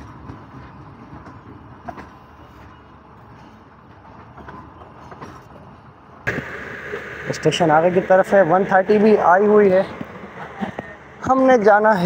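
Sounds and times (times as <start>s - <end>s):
train coaches running: 0.0s - 12.0s.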